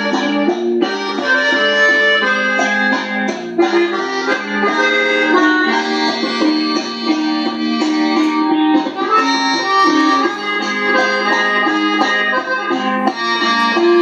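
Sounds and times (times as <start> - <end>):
accordion playing quick melody: 0.0 - 14.0
steady accompaniment: 0.0 - 14.0.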